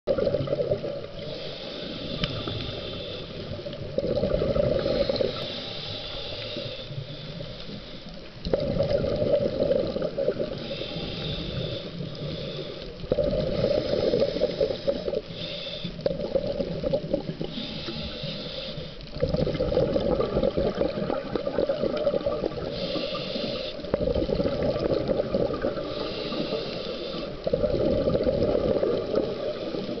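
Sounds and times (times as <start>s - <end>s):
bubbling on exhale: 0.1s - 5.6s, 8.4s - 18.4s, 19.1s - 30.0s
regulator hiss on inhale: 1.0s - 30.0s.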